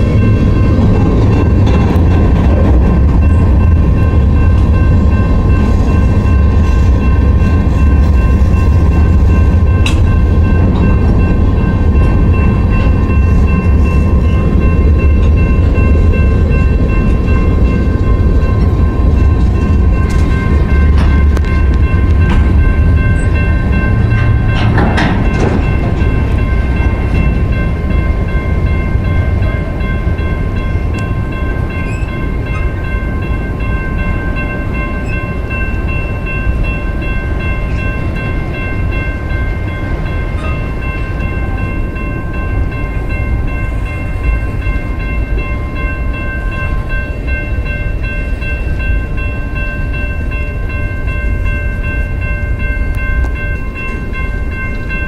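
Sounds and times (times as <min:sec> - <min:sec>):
train cars rumbling on rails: 0:00.0 - 0:55.0
train clatter: 0:00.0 - 0:55.0.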